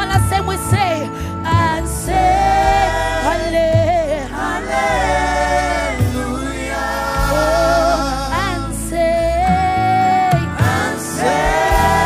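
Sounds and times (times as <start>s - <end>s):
band with keyboard and guitar: 0.0s - 12.0s
steady bass line: 0.0s - 12.0s.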